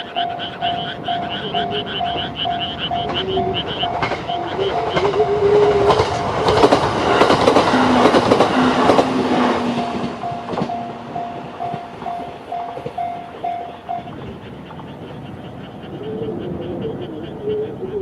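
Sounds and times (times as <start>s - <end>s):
crossing warning bell dinging: 0.0s - 14.5s
train wheels clattering on rails: 0.0s - 15.8s.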